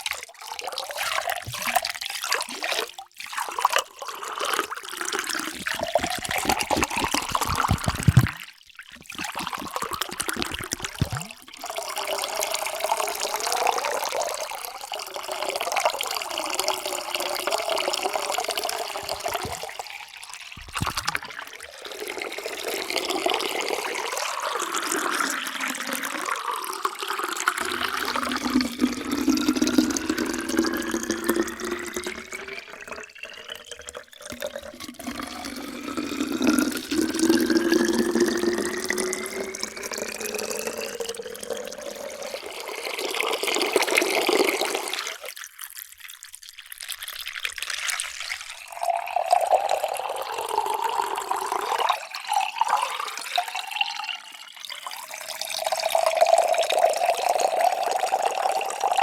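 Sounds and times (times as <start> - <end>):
water pouring into vessel: 0.0 - 59.0.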